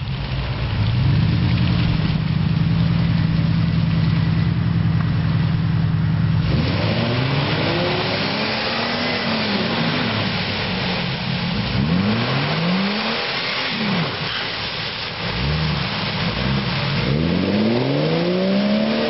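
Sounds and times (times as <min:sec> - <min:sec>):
off-road vehicle engine revving: 0:00.8 - 0:19.0.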